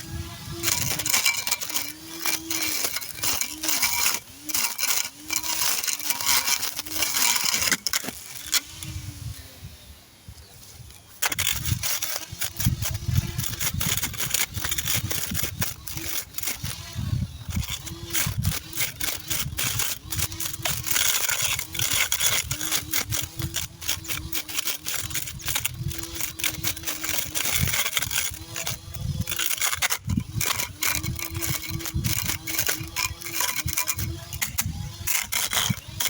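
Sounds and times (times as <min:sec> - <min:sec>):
electric lawn mower motor hum: 0:00.0 - 0:10.0, 0:10.8 - 0:36.0.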